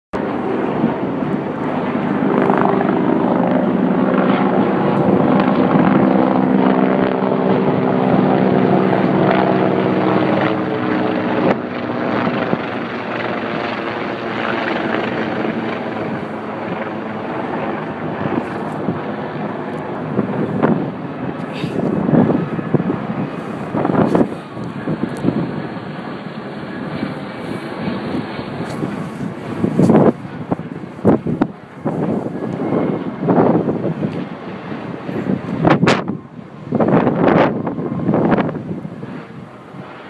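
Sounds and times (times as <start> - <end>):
helicopter rotor and engine drone: 0.1 - 40.0.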